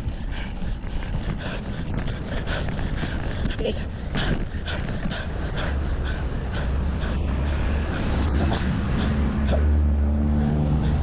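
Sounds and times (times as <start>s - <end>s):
vehicle engine humming: 0.0s - 11.0s
wind rumbling on microphone: 0.0s - 11.0s.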